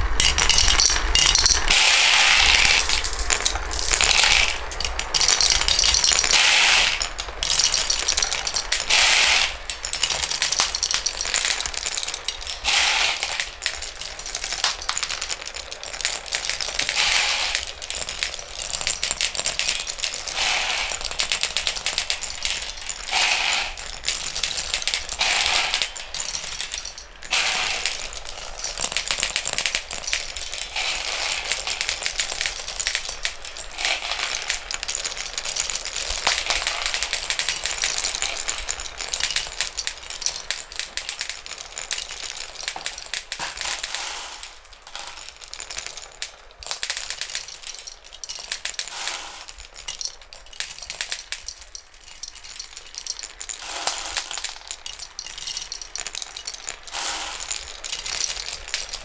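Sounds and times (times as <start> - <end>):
marbles rattling on wooden track: 0.0 - 59.0.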